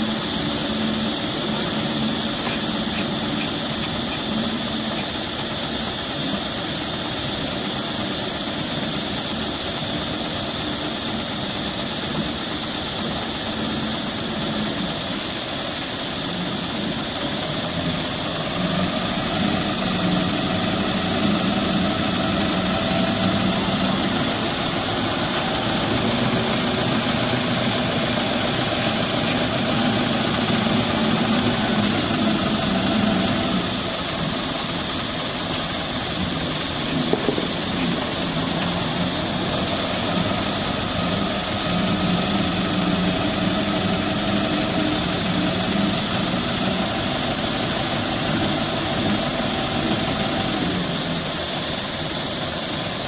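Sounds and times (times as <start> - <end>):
engine running: 0.0 - 53.0.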